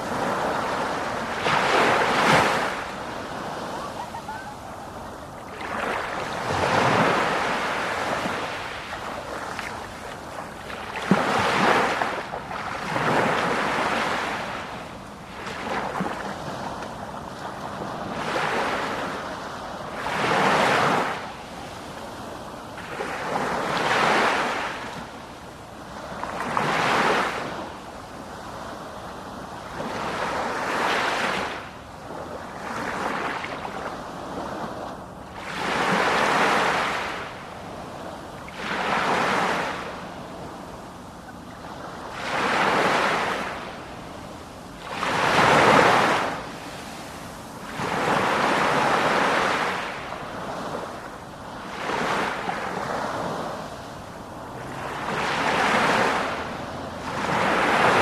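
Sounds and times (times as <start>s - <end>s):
sea waves breaking ashore: 0.0s - 58.0s.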